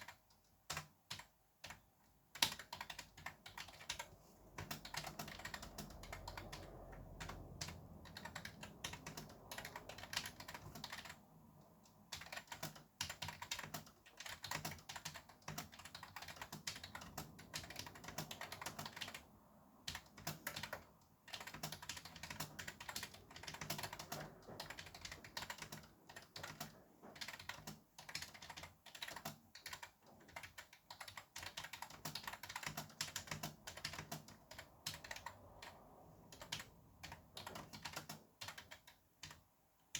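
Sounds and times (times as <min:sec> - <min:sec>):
fast typing on keyboard: 0:00.0 - 0:39.5.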